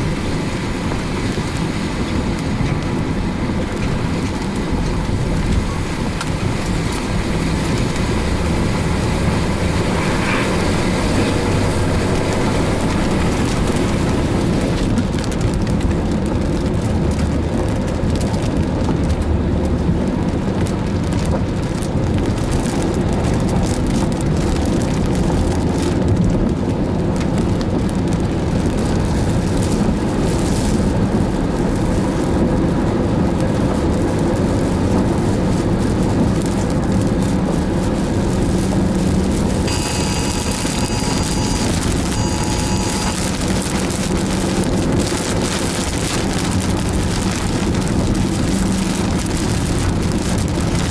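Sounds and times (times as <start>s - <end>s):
car driving rumble: 0.0s - 50.9s
rain on car: 0.0s - 50.9s
road and wind noise: 0.0s - 50.9s.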